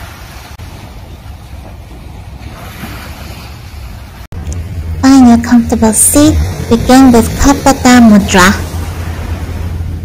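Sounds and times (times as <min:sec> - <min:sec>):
ocean surf washing on beach: 0:00.0 - 0:10.0.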